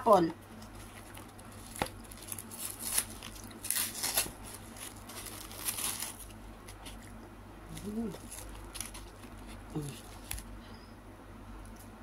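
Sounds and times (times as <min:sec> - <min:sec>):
cling film crinkling: 0:00.6 - 0:10.5.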